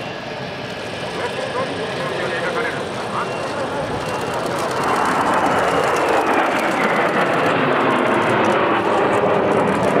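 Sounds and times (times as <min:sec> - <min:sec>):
jet engines overhead: 0:00.0 - 0:10.0.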